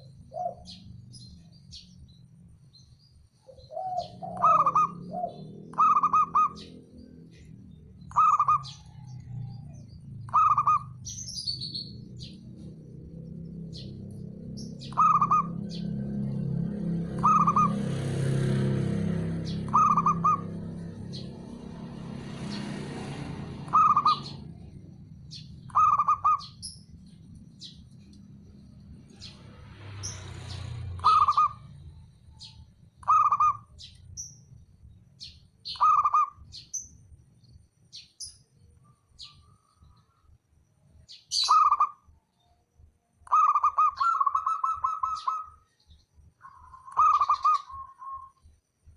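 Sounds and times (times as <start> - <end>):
dove calling: 0.0 - 2.1, 3.3 - 29.4, 30.0 - 34.4, 35.2 - 37.0, 41.3 - 42.0, 43.2 - 48.5.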